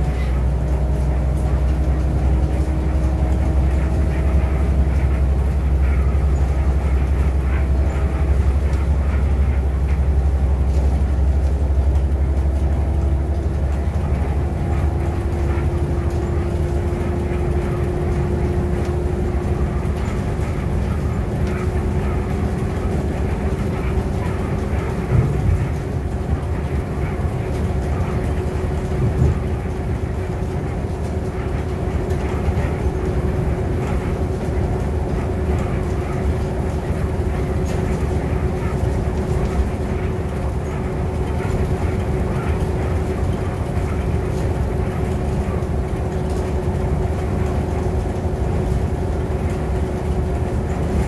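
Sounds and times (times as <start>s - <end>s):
bus engine drone: 0.0s - 51.0s
tyre and road noise: 0.0s - 51.0s.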